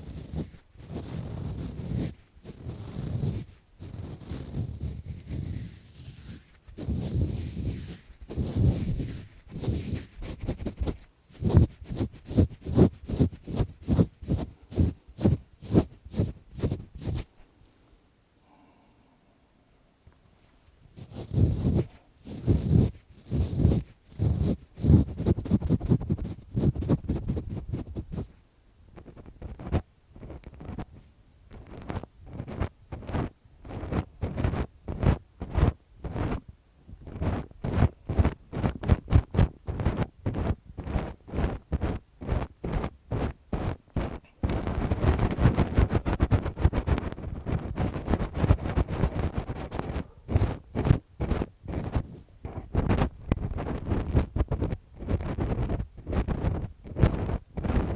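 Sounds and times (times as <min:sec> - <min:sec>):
gloved hands scratching microphone: 0:00.0 - 0:17.3, 0:20.7 - 0:28.4, 0:29.0 - 0:36.4, 0:37.0 - 0:57.9.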